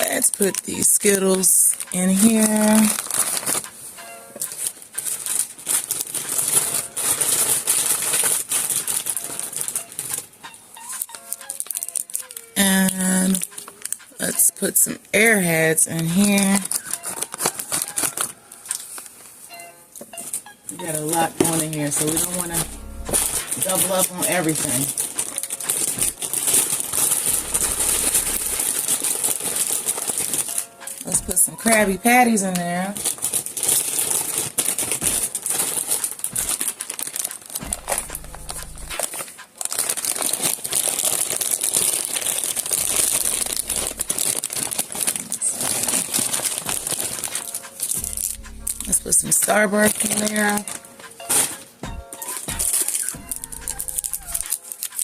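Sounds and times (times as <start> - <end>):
small candies and toys clattering: 0.0 - 15.0, 15.8 - 19.3, 20.2 - 55.0
candy wrappers crinkling: 0.0 - 19.5, 20.2 - 55.0.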